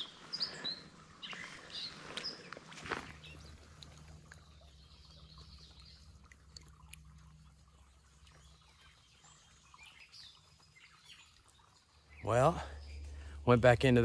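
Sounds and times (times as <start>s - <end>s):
low steady hum: 2.8s - 14.0s.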